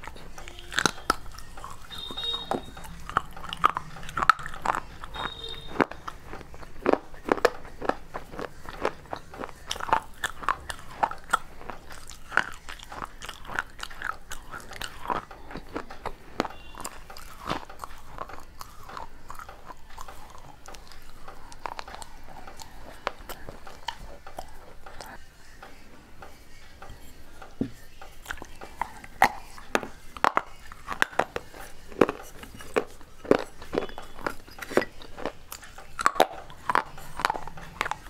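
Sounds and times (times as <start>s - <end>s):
crunching and chewing clay: 0.0s - 38.0s.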